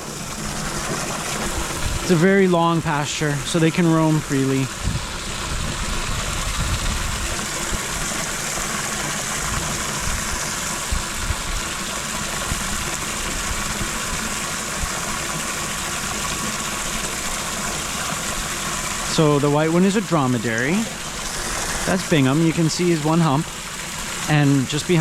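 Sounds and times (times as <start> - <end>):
water running into metal tank: 0.0 - 25.0.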